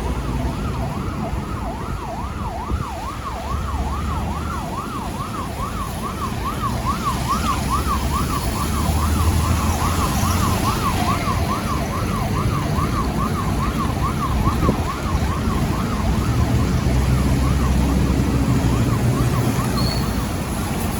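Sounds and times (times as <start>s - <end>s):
fire siren yelping: 0.0s - 20.9s
vehicle engine rumble: 0.0s - 20.9s.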